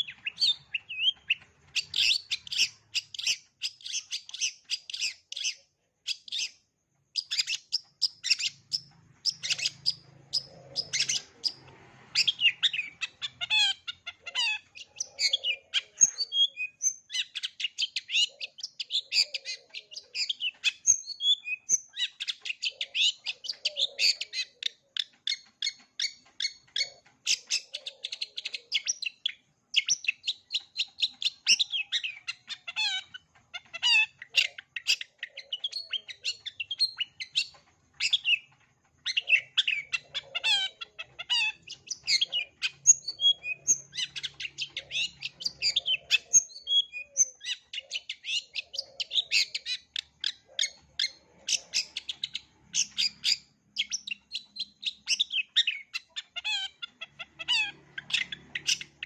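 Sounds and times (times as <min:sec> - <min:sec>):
shrike singing rapid chattering song: 0:00.0 - 0:59.0.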